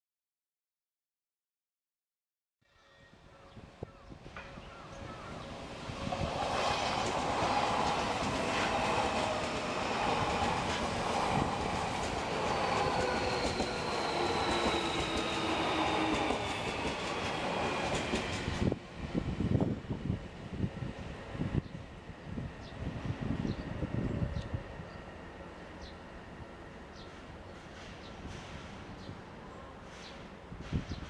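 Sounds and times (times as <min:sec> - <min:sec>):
train whining tones: 0:04.2 - 0:30.9.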